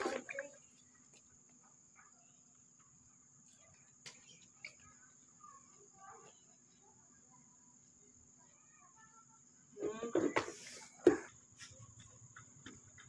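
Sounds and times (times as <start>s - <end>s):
faint chirps: 0.0s - 13.0s.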